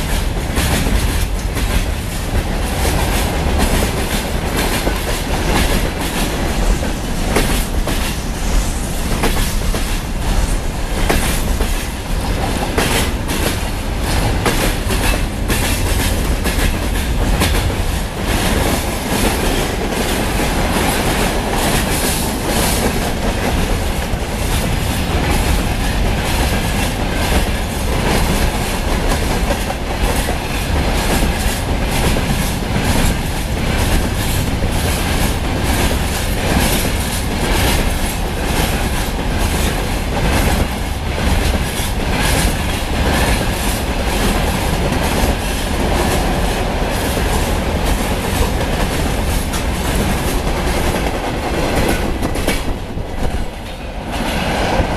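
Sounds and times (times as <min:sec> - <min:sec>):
train wheels clattering over rail joints: 0:00.0 - 0:54.9.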